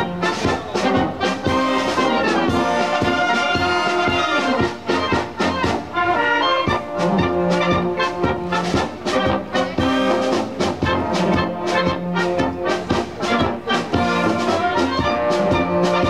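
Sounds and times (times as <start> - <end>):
brass band playing lively tune: 0.0 - 16.0.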